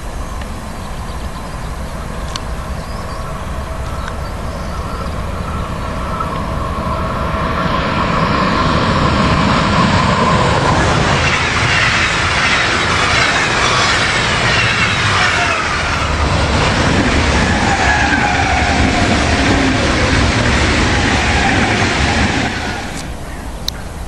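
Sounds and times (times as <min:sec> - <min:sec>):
train whine falling in pitch: 0:00.0 - 0:23.2
wheel-on-rail rolling noise: 0:00.0 - 0:23.7.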